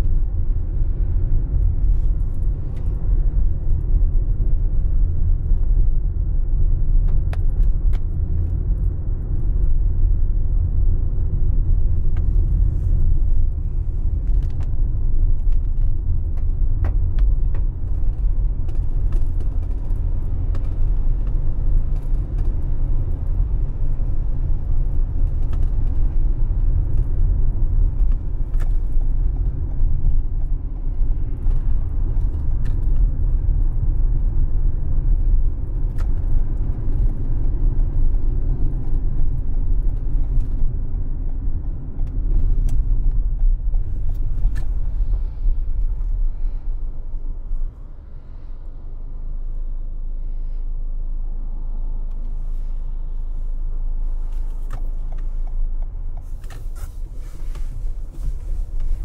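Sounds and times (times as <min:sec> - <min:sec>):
car driving on wet road: 0:00.0 - 0:59.0.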